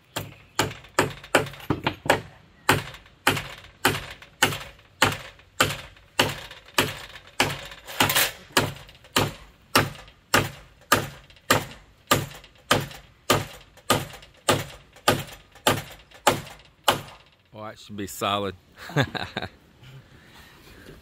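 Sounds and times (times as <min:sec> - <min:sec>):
hammer driving nails into wood: 0:00.1 - 0:17.3.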